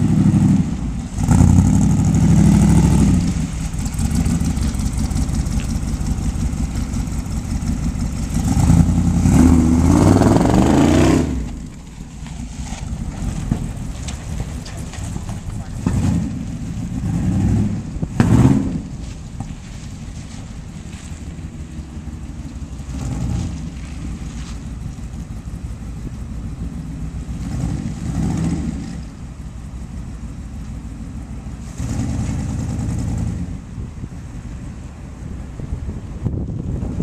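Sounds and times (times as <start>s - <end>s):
car exhaust rumble: 0.0s - 37.0s.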